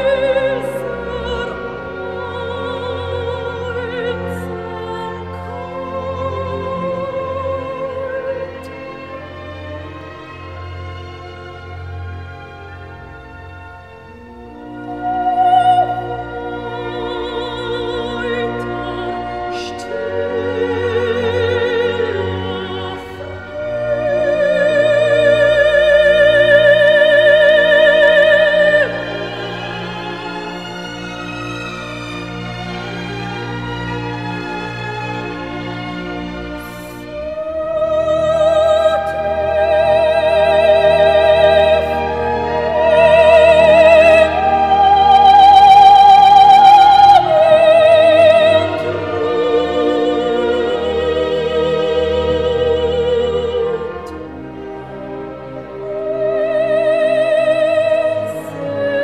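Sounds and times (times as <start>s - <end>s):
classical music: 0.0s - 59.0s
operatic singing: 0.0s - 59.0s.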